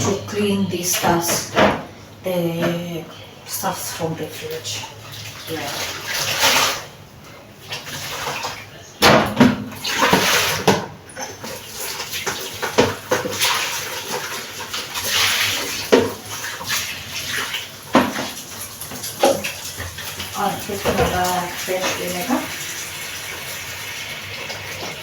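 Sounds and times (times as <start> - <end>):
water pouring and sloshing: 0.0 - 25.0.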